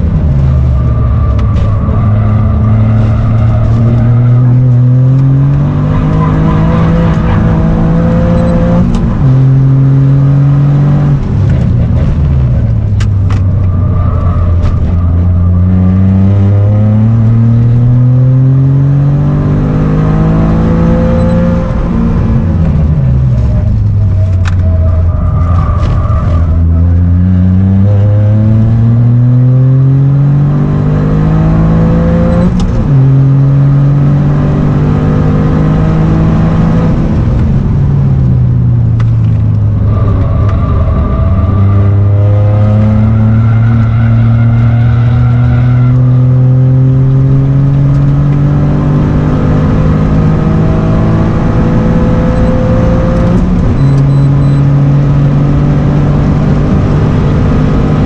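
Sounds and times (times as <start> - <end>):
car engine at hard throttle: 0.0 - 58.0.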